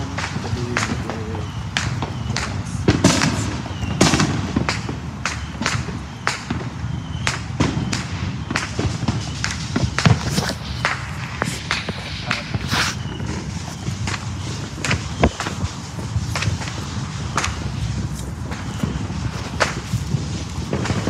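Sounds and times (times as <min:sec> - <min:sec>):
firework whistles: 0:00.0 - 0:21.0
fireworks bangs and crackles: 0:00.0 - 0:21.0.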